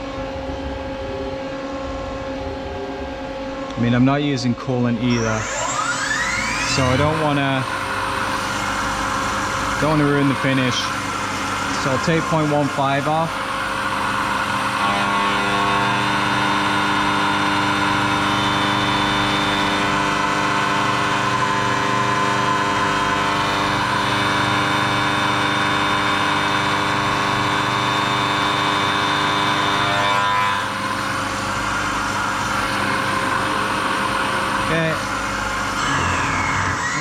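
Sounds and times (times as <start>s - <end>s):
milling spindle whine: 4.8s - 37.0s
cutter cutting aluminium: 5.1s - 35.0s.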